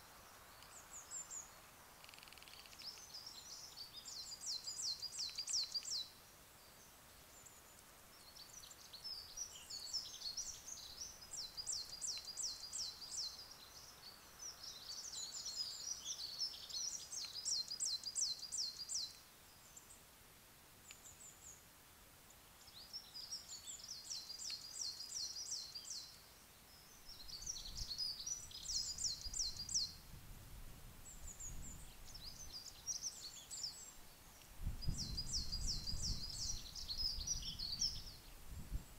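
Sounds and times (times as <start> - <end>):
songbirds singing: 0.0 - 30.2, 30.9 - 38.9.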